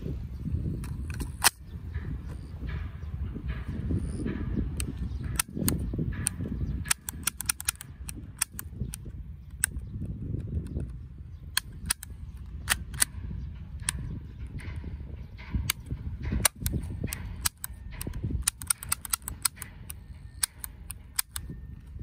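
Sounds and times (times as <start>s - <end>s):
wind rumble on microphone: 0.0s - 22.0s
airsoft pistol clicks and snaps: 0.7s - 2.4s, 4.7s - 22.0s.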